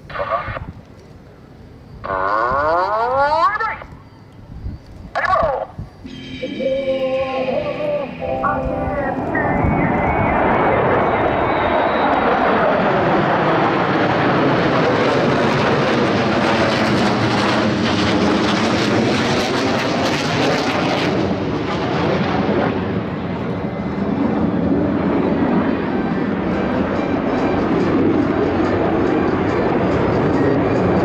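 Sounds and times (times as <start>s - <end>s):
jets roaring overhead: 1.5s - 31.0s.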